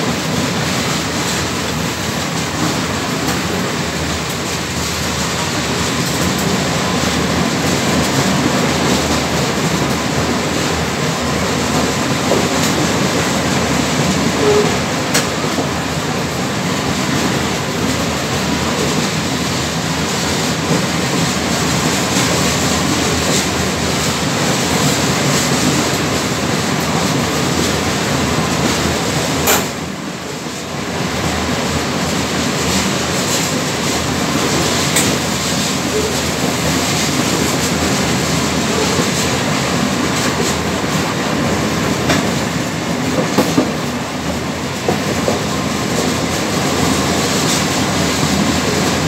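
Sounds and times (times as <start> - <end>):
steel train wheels on rails: 0.0 - 49.0.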